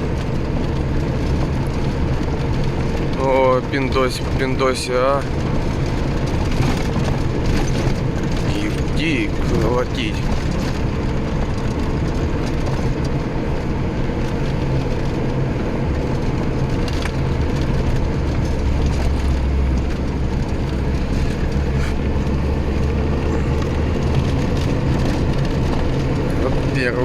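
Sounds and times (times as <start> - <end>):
cab rattling and knocking: 0.0 - 27.0
van engine drone: 0.0 - 27.0.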